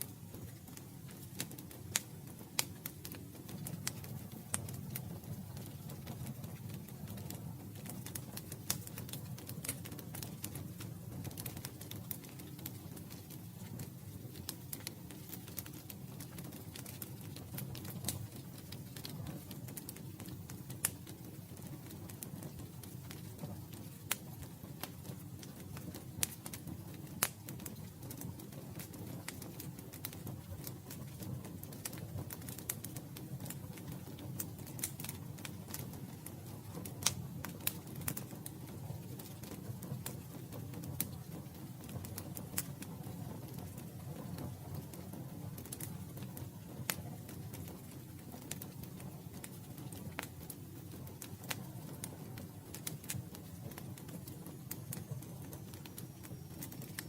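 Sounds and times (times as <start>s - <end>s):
low rumble of flames: 0.0s - 57.0s
wood campfire crackling: 0.0s - 57.0s.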